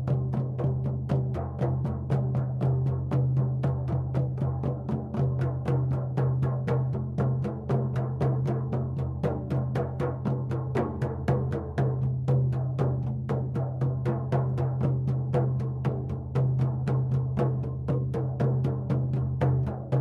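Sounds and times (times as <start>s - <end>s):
hand drum beaten steadily: 0.0s - 20.0s.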